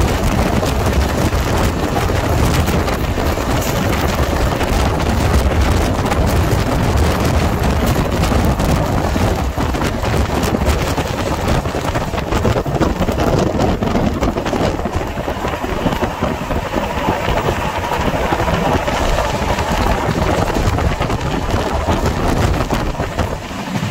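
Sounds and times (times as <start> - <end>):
rush of wind: 0.0 - 23.9
train wheels rumbling on rails: 0.0 - 23.9.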